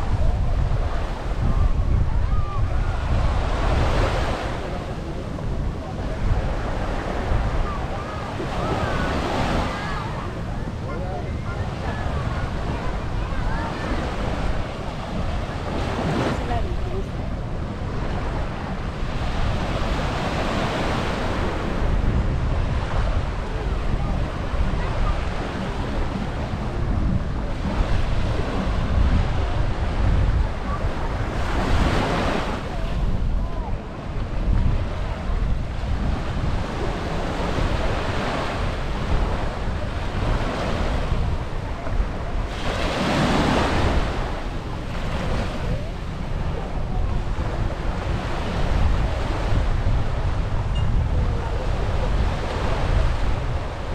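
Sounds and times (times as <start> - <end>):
small waves washing onto shore: 0.0 - 53.9
wind buffeting microphone: 0.0 - 53.9.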